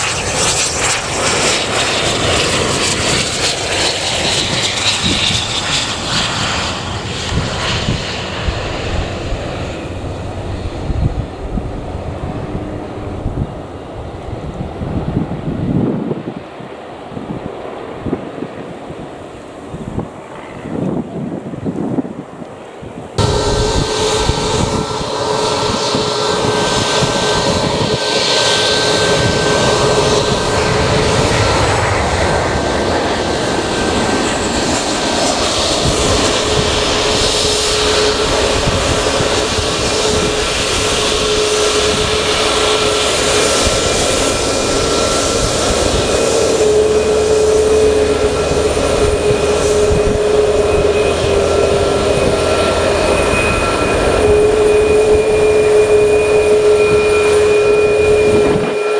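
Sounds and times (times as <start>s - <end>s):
jet engines whining: 0.0s - 58.9s.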